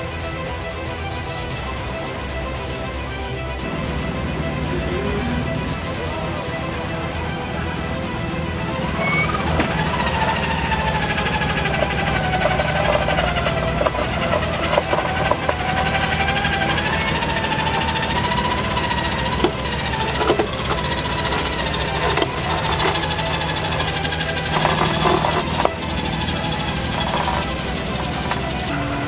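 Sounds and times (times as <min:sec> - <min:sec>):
engine running at low revs: 0:00.0 - 0:29.0
wavering whine: 0:03.6 - 0:29.0.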